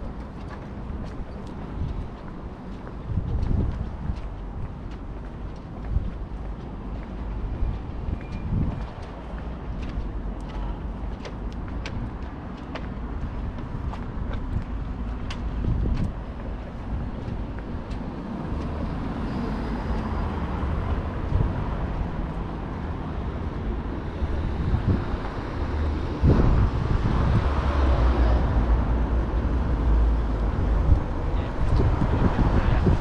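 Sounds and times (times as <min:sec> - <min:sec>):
low rumble of passing traffic: 0:00.0 - 0:33.0.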